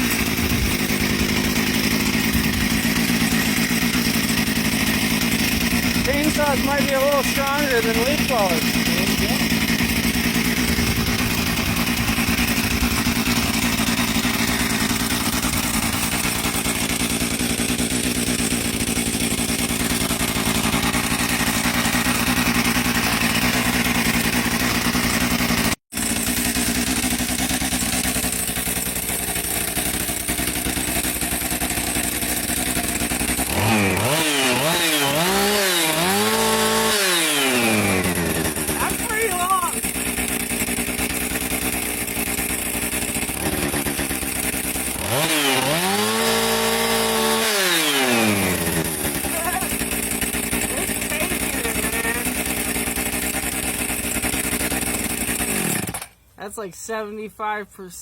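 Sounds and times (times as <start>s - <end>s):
chainsaw revving: 0.0s - 56.3s.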